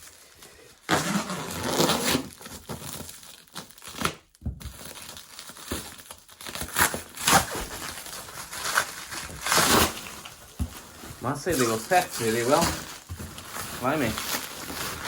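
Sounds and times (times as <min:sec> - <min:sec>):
packaging rustling and tearing: 0:00.0 - 0:15.0.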